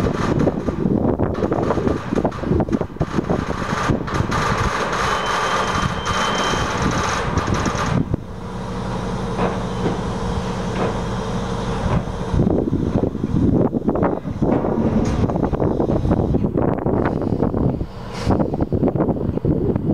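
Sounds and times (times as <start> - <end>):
heavy machinery engine rattling: 0.0 - 19.9.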